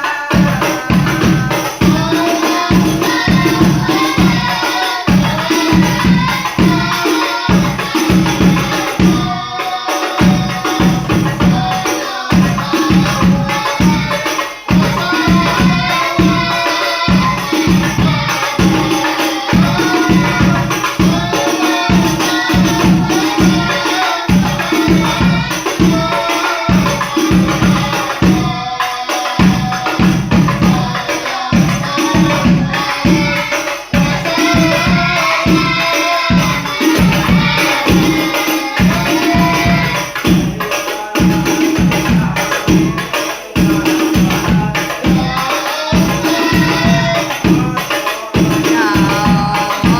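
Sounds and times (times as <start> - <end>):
devotional singing: 0.0 - 49.9
frame drums beating: 0.0 - 49.9
jingling tambourine percussion: 0.0 - 49.9.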